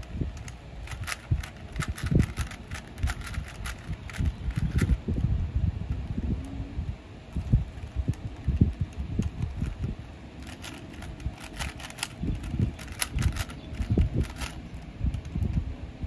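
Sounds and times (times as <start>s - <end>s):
puzzle cube clicking and rattling: 0.0s - 5.2s, 7.3s - 15.6s
low bumps and rumble: 0.0s - 15.7s.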